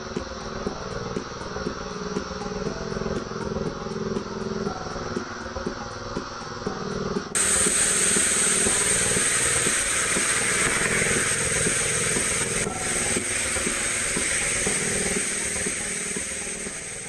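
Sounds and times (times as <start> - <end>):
background music low notes: 0.0 - 17.0
loud steady hiss: 0.0 - 17.0.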